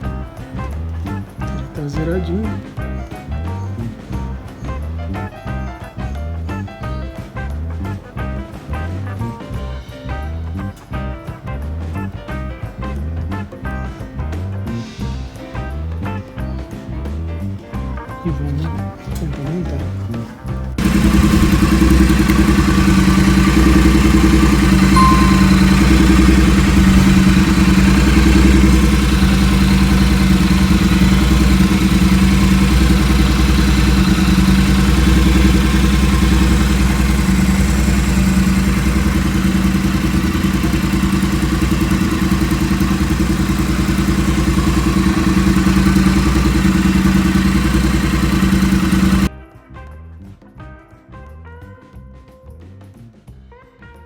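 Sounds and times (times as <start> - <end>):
motorcycle engine running: 0.0 - 16.3, 18.3 - 49.3.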